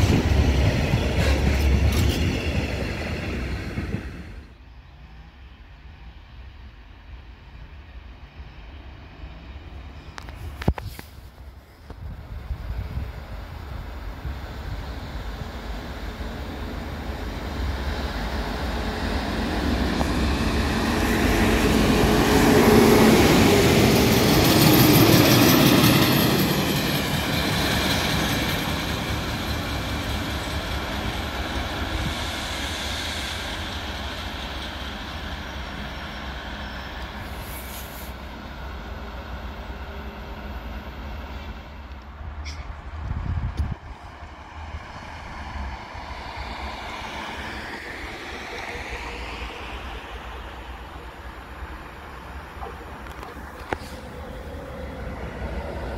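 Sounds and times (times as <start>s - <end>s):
work train running past: 0.0s - 55.9s.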